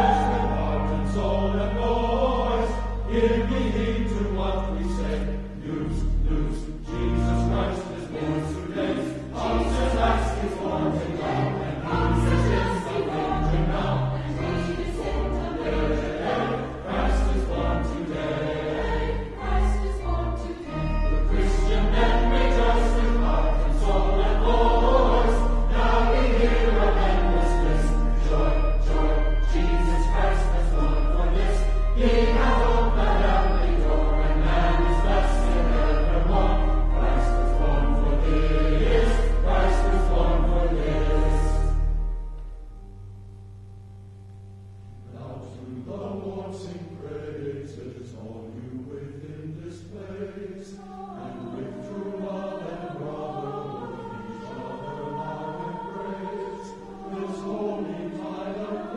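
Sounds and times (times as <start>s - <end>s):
choir singing: 0.0s - 42.8s, 45.0s - 58.9s.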